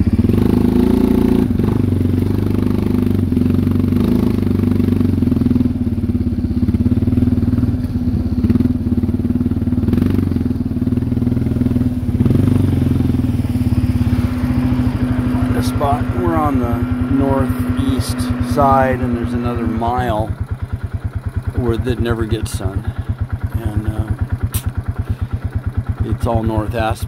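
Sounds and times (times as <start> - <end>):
quad engine running: 0.0 - 27.0.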